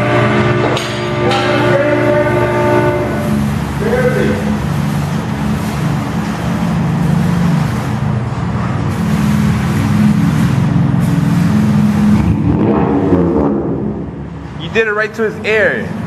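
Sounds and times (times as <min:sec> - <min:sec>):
loud car exhaust drone: 0:00.0 - 0:16.0.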